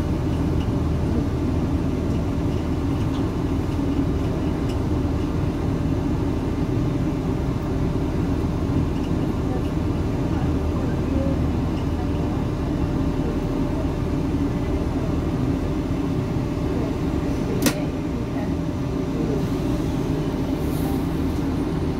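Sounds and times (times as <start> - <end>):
diesel train rumble inside carriage: 0.0 - 21.9.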